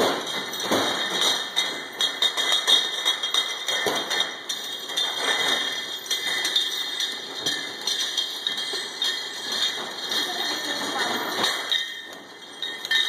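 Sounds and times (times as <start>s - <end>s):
bottles clattering on conveyor: 0.0s - 13.0s.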